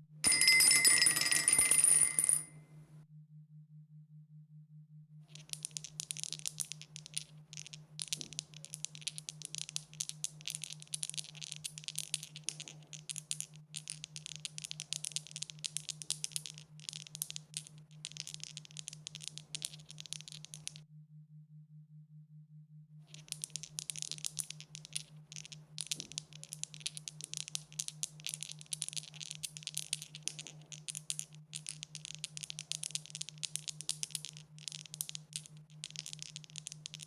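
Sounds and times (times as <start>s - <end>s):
dice rattling: 0.3s - 2.5s, 5.4s - 20.8s, 23.2s - 37.0s.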